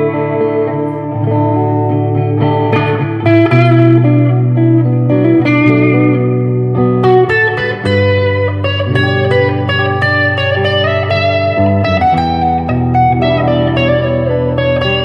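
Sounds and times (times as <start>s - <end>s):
electric guitar single-note lines: 0.0s - 15.0s.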